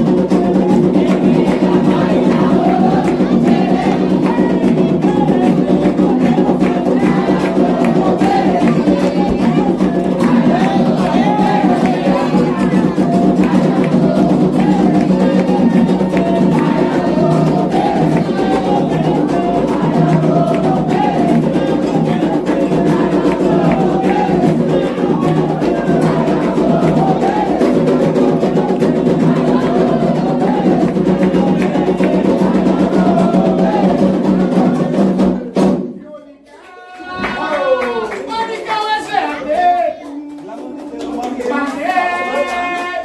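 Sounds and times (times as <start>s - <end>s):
hand drums beating: 0.0s - 36.0s
group singing a chant: 0.0s - 43.0s.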